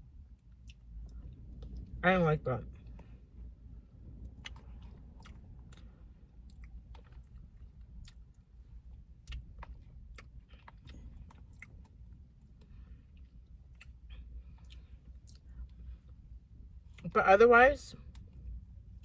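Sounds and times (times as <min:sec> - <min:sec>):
person chewing ice cream: 0:00.4 - 0:02.0, 0:04.1 - 0:17.1, 0:18.0 - 0:19.0.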